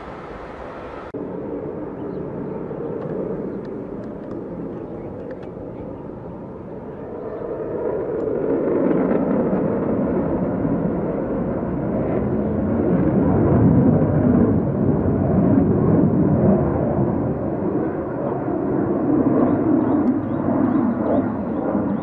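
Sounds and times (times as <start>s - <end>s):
deep jet engine noise: 0.0s - 22.0s.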